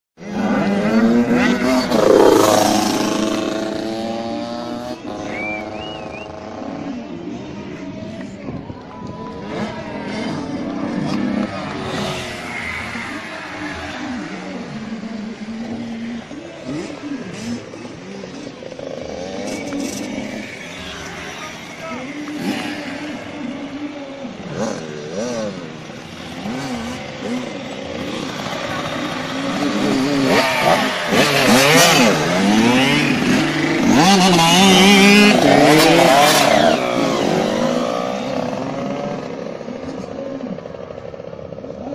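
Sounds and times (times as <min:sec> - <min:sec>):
motocross bike engines revving: 0:00.2 - 0:41.9.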